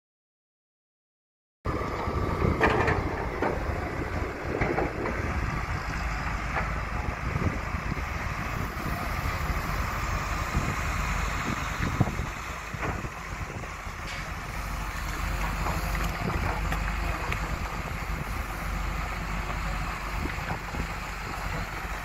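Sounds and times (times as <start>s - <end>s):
excavator diesel engines rumbling: 1.7s - 22.0s.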